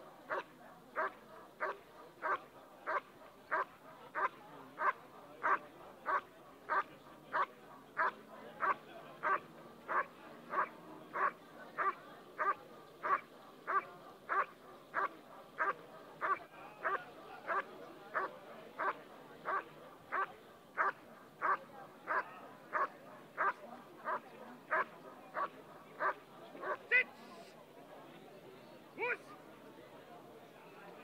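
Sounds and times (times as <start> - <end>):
dog barking: 0.3 - 26.8.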